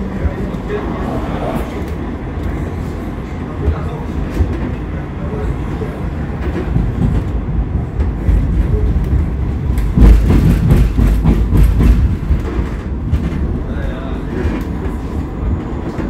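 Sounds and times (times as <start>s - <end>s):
train clacks and rattles: 0.0s - 16.0s
train wheels rumbling on rails: 0.0s - 16.0s.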